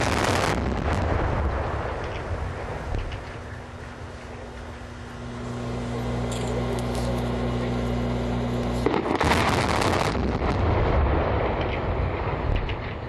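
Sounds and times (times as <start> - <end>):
demolition blasts crackling: 0.0 - 13.0
low hum: 0.0 - 13.0
low rumble: 0.0 - 13.0.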